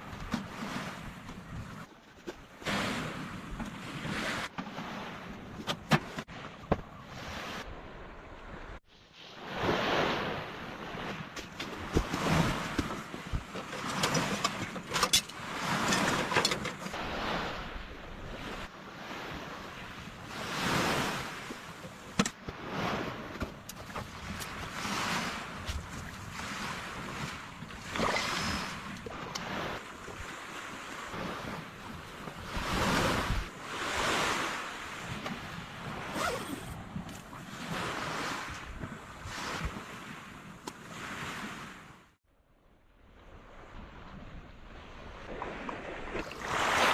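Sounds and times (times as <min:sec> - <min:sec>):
waves breaking on a beach: 0:00.0 - 0:42.2, 0:43.0 - 0:46.9.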